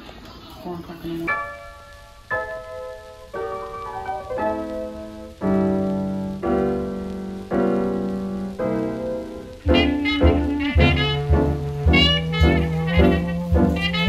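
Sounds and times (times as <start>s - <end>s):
slow piano chords: 1.1s - 14.0s.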